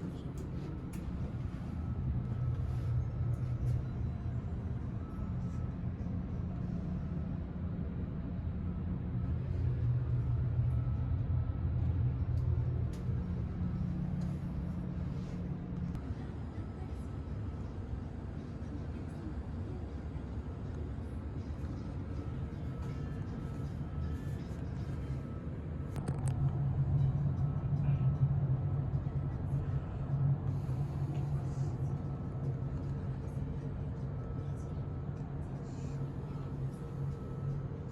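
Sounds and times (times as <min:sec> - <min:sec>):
ship machinery rumble and hum: 0:00.0 - 0:37.9.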